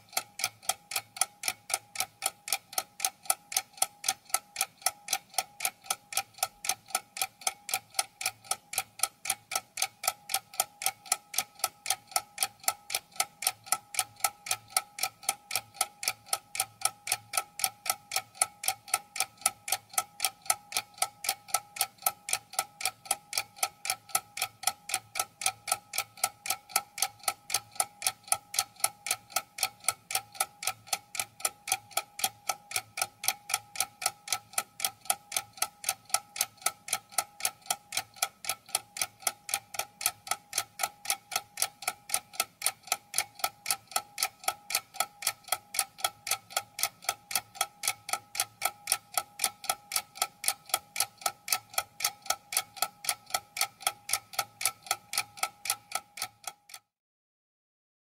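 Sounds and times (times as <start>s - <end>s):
mechanical clock ticking: 0.0s - 56.9s.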